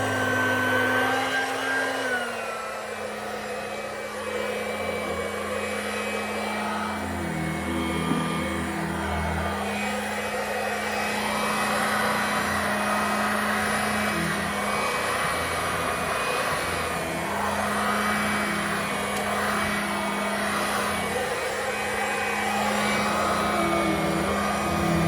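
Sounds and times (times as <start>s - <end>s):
handheld vacuum cleaner running: 0.0s - 25.0s.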